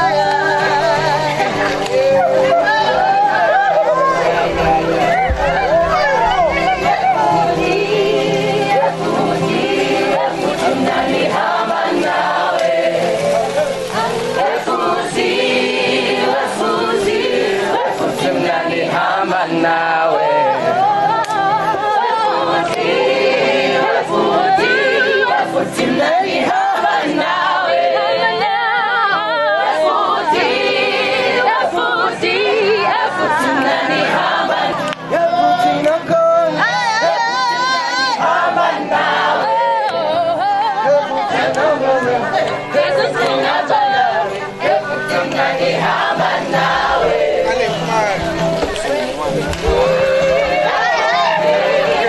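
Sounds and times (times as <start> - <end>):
choir singing: 0.0 - 52.0.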